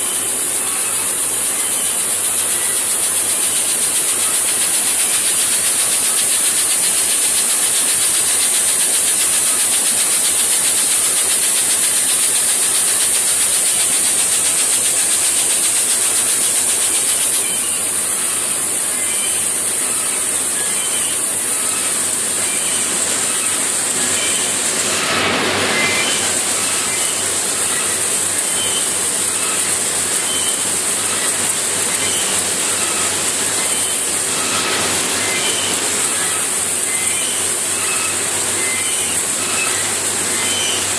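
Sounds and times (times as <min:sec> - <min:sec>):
machinery running: 0:00.0 - 0:40.9
seed pouring hiss: 0:00.0 - 0:40.9.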